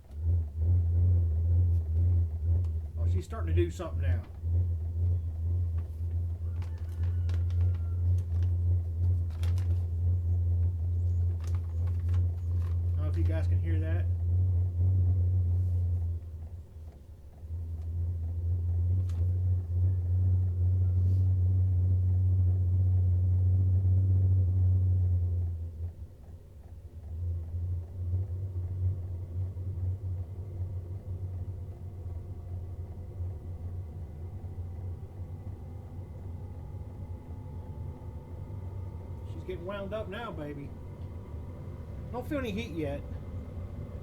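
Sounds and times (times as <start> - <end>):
air heater low rumble: 0.0 - 44.0
fan rising whine: 0.0 - 44.0.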